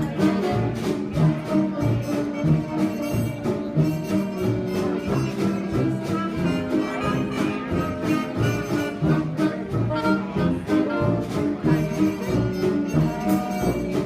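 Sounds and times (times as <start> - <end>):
dance orchestra playing: 0.0 - 14.0.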